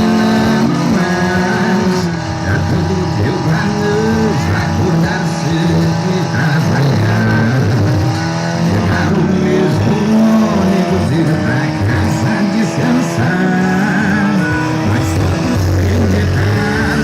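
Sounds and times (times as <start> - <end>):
car engine revving hard: 0.0 - 17.0
music playing: 0.0 - 17.0.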